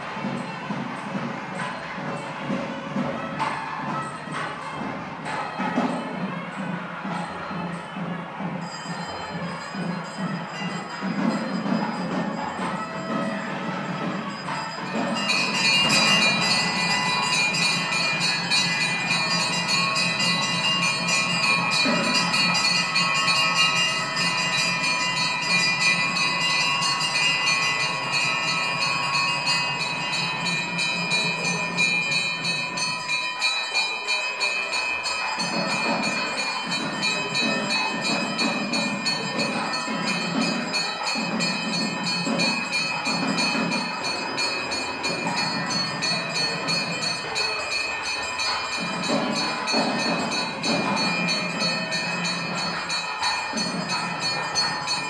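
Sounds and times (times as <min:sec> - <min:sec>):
temple bells ringing rapidly: 0:00.0 - 0:55.0.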